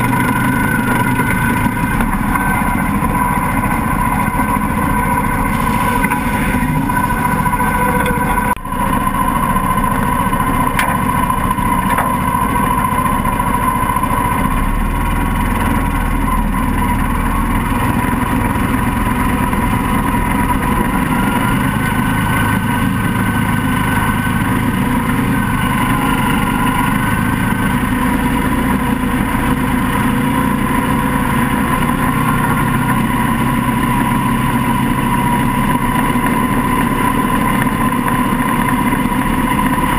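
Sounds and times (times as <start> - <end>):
buggy engine running: 0.0 - 39.9.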